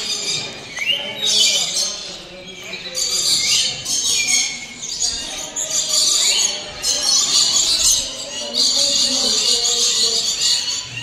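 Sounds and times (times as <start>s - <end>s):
birds squawking and chattering: 0.0s - 11.0s.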